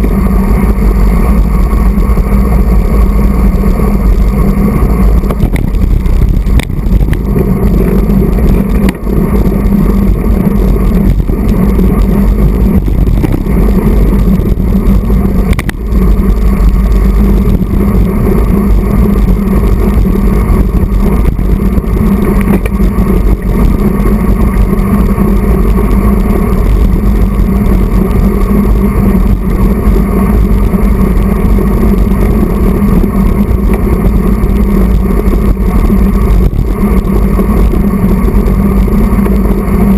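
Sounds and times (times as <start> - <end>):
road noise: 0.0 - 39.9
wind rumble: 0.0 - 39.9.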